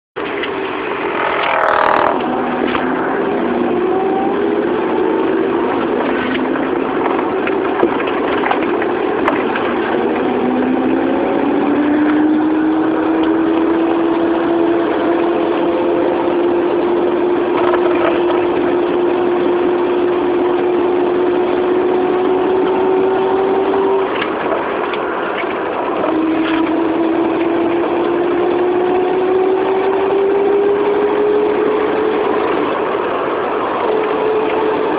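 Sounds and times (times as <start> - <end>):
car engine accelerating: 0.2 - 34.9
spinning whine: 0.2 - 34.9.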